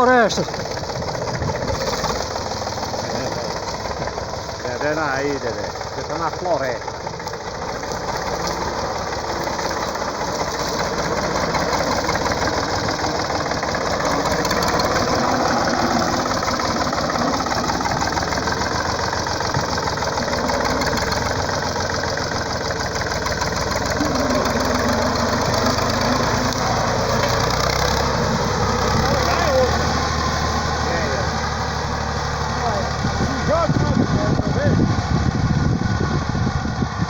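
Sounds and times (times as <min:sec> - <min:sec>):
tractor engine running: 0:00.0 - 0:37.0.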